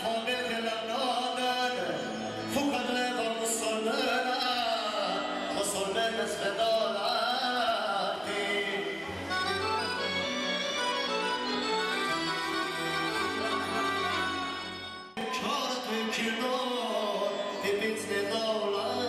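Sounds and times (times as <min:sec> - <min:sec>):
song with instrumental accompaniment: 0:00.0 - 0:19.0.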